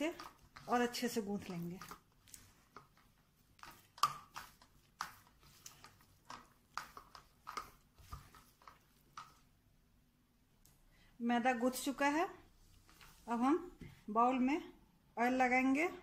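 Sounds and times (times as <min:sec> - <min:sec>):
hands kneading wet dough: 0:00.0 - 0:10.9, 0:11.8 - 0:14.2.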